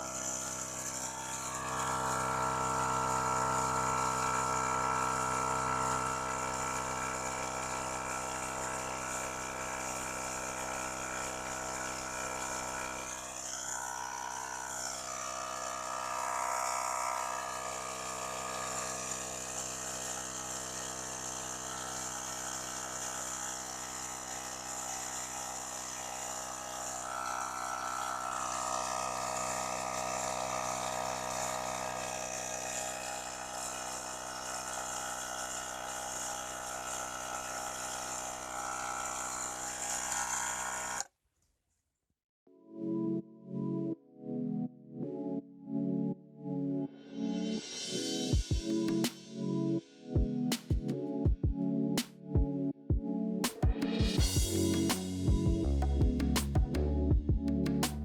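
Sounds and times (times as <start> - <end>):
air compressor motor hum: 0.0 - 41.0, 47.8 - 49.4, 53.5 - 58.0.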